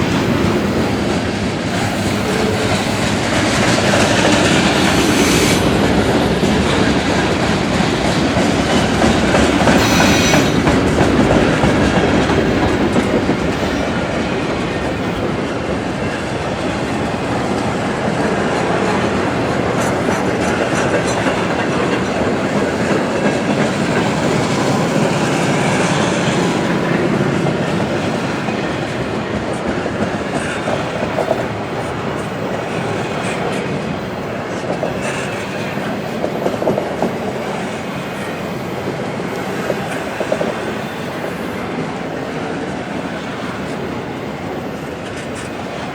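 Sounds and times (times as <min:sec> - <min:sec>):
freight train wheels on rails: 0:00.0 - 0:45.9.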